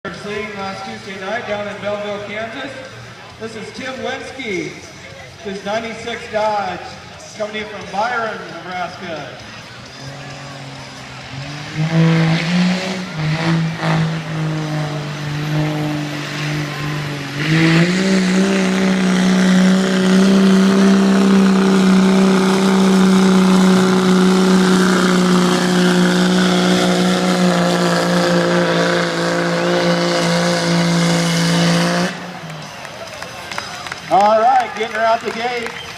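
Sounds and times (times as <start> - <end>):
pickup engine at full throttle: 4.6 - 35.8.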